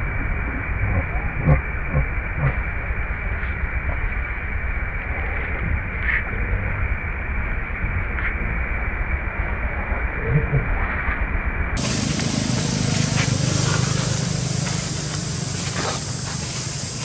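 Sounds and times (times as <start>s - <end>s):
low rumble: 0.0s - 17.0s
outdoor background hiss: 0.0s - 17.0s.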